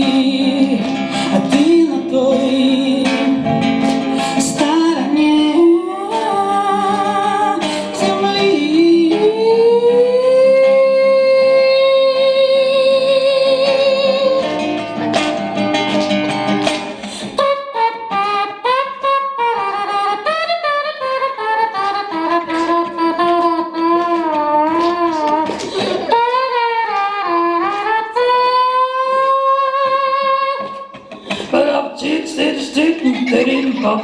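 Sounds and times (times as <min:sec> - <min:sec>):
woman singing: 0:00.0 - 0:14.6, 0:17.4 - 0:34.0
acoustic guitar strumming: 0:00.0 - 0:34.0.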